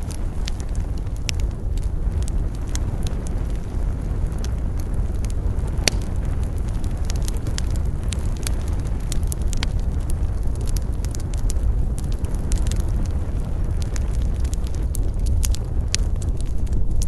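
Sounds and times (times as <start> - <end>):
campfire wood crackling: 0.0 - 17.0
low rumble: 0.0 - 17.0.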